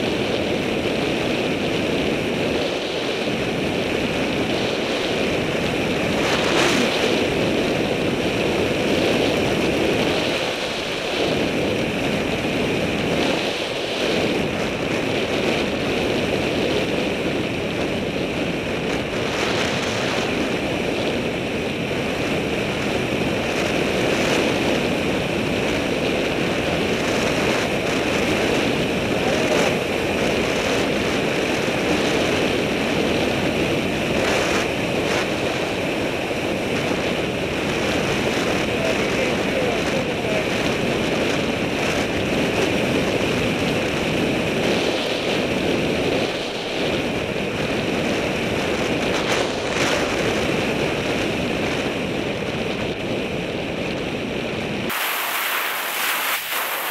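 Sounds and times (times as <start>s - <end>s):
wind rushing over microphone: 0.0s - 56.9s.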